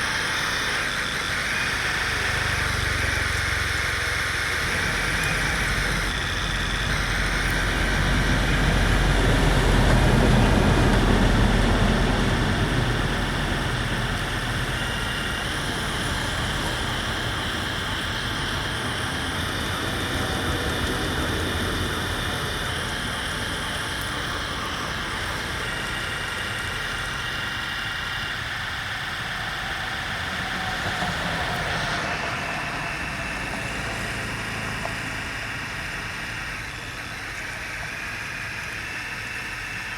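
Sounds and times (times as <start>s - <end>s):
remote-control model motors and gears: 0.0s - 39.9s.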